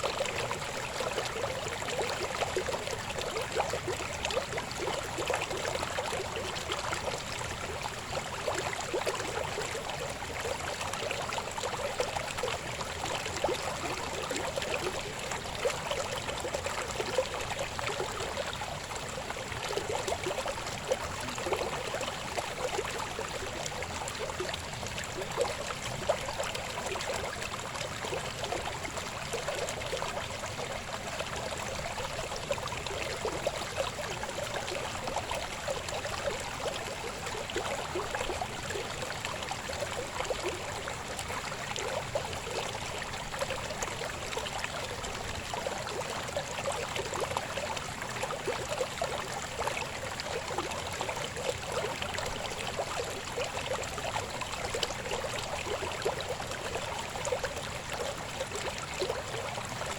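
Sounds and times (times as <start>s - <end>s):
water flowing over rocks: 0.0s - 59.9s.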